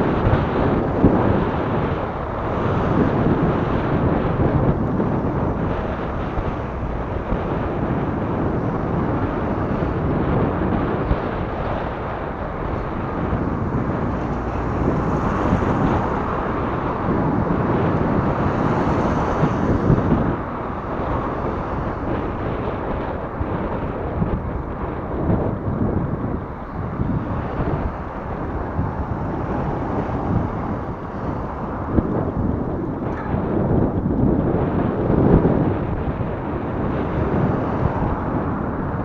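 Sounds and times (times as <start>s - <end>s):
wind blowing across microphone: 0.0s - 39.0s.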